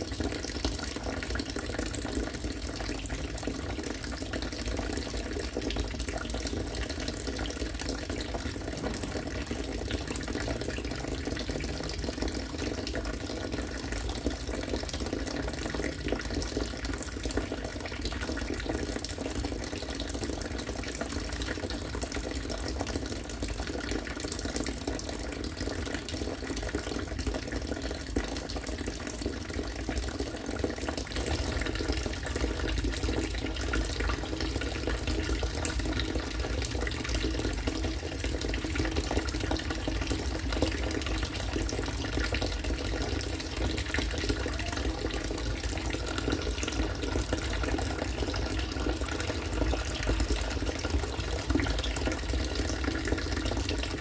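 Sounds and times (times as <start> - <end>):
water pouring into water: 0.0 - 54.0.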